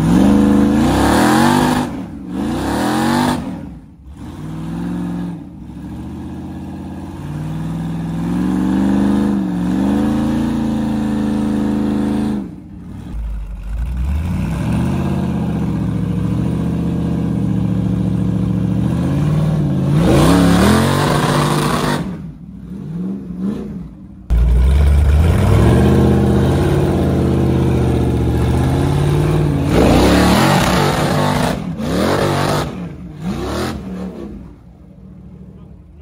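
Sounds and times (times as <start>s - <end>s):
engine revving hard: 0.0s - 34.6s.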